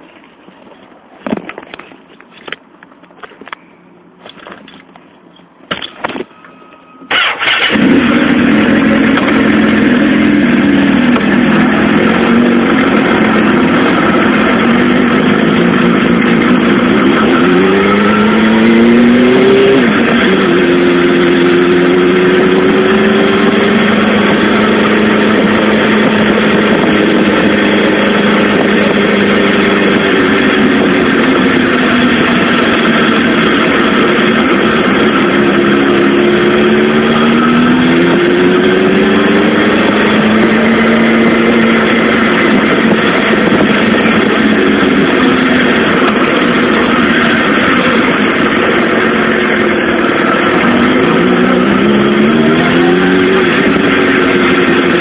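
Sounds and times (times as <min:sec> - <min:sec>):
motorcycle engine running: 0:07.1 - 0:55.0.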